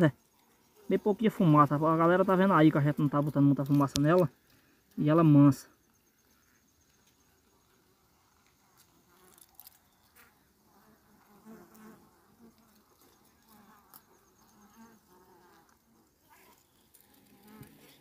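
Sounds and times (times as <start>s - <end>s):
honeybees buzzing hum: 0.0s - 18.0s.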